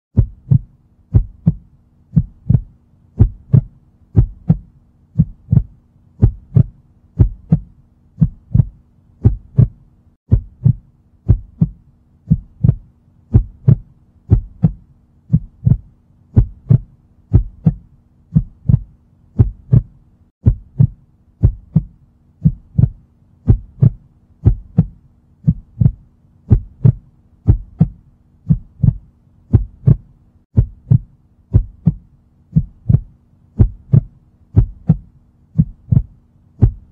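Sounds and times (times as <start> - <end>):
heartbeat thumps: 0.1 - 36.9.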